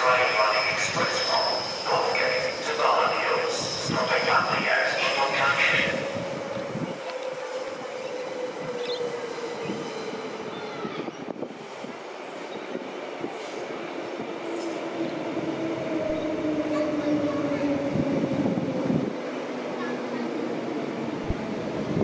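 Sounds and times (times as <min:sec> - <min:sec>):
electric train rolling rumble: 0:00.0 - 0:22.0.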